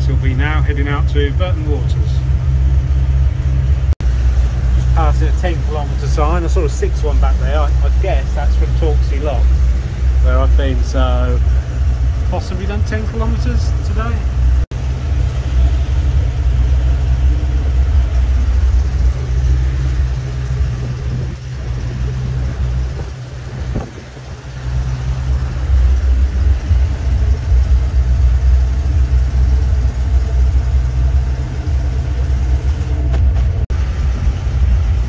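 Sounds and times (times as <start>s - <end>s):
boat engine drone: 0.0s - 35.0s.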